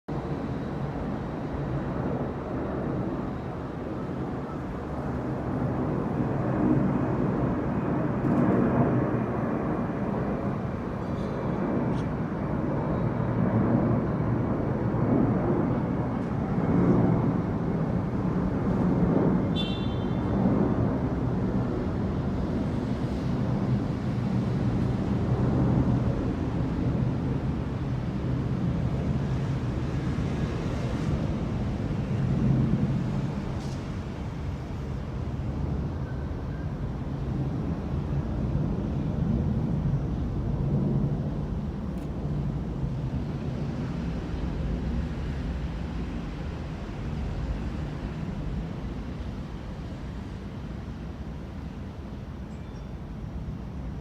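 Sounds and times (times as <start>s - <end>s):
airplane roar: 0.1s - 54.0s.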